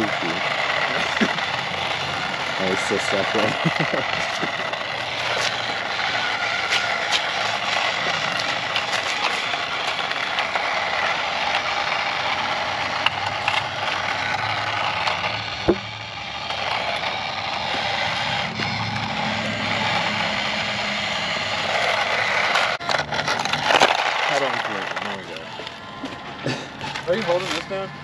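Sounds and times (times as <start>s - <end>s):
toy car motor whirring: 0.0s - 28.0s.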